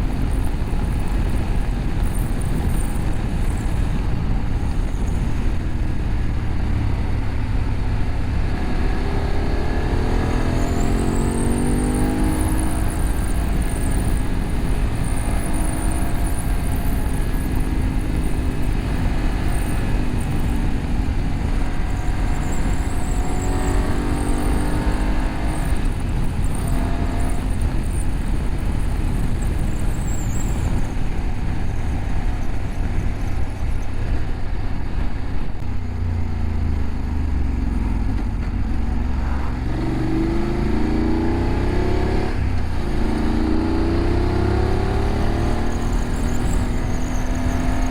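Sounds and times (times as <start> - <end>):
motorcycle engine: 0.0 - 47.9
wind noise on microphone: 0.0 - 47.9.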